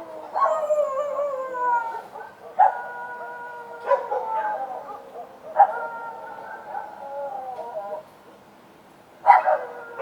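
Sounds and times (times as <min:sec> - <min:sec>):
dogs howling: 0:00.0 - 0:08.0, 0:09.3 - 0:10.0.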